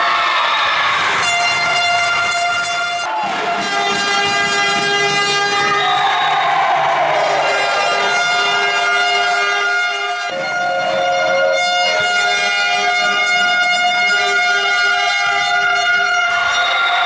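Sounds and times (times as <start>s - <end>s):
spectators' horns blowing: 1.1s - 17.0s.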